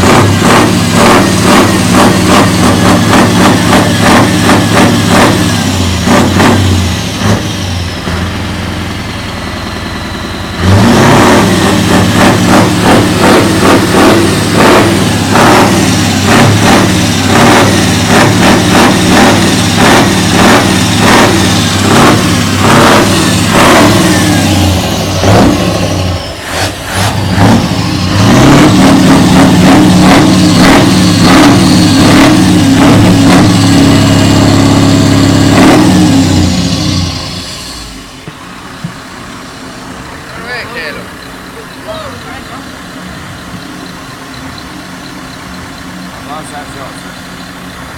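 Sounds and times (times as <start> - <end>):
truck engine at full throttle: 0.0 - 47.9.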